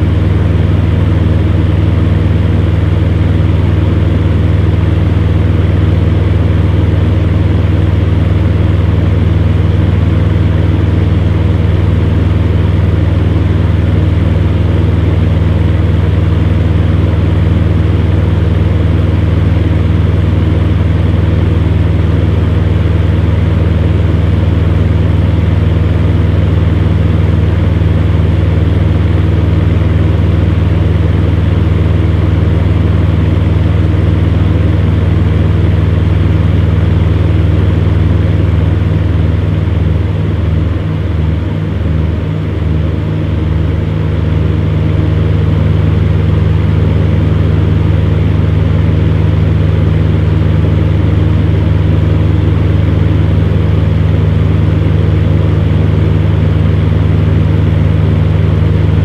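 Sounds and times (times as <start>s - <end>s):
fan air rushing: 0.0s - 59.0s
fan heater motor hum: 0.0s - 59.0s.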